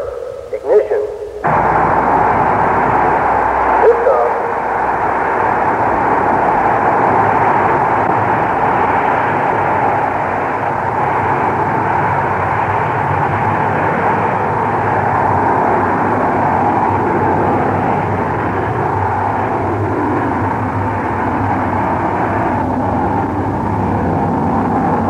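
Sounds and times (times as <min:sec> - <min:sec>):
rocket engine roar: 0:00.0 - 0:25.0.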